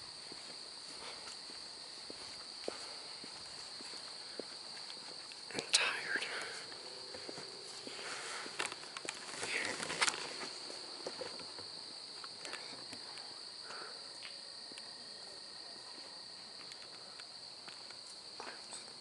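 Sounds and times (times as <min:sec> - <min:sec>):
night insects trilling: 0:00.0 - 0:19.0
soft footsteps on path: 0:00.0 - 0:19.0.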